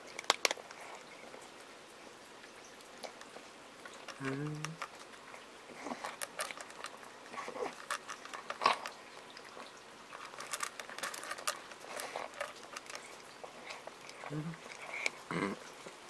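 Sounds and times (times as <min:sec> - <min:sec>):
cat crunching food: 0:00.0 - 0:01.5, 0:03.0 - 0:16.0.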